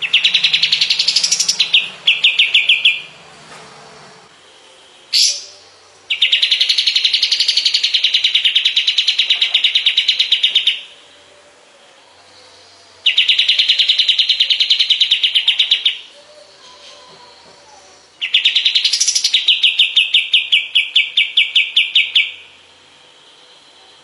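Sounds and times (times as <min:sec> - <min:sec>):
songbird trilling: 0:00.0 - 0:03.2, 0:05.1 - 0:11.2, 0:12.2 - 0:22.6.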